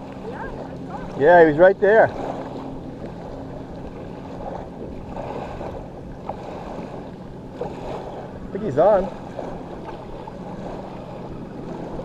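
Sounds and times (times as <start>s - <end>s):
surf washing on beach: 0.0s - 12.0s
wind: 0.0s - 12.0s.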